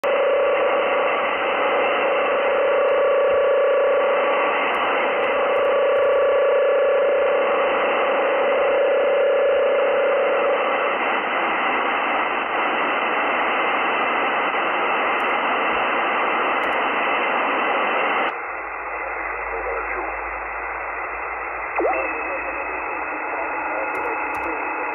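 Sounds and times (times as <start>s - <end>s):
radio static hiss: 0.0s - 24.9s
steady radio tones: 0.0s - 24.9s.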